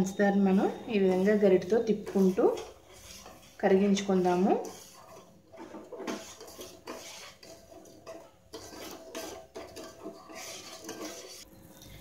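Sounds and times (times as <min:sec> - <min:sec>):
ladle scraping metal pot: 0:00.0 - 0:12.0.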